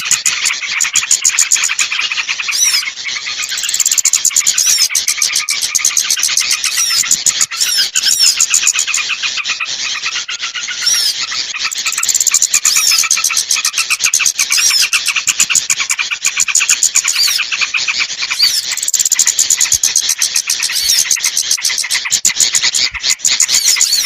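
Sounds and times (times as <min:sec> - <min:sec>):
songbirds chirping and twittering: 0:00.0 - 0:24.0.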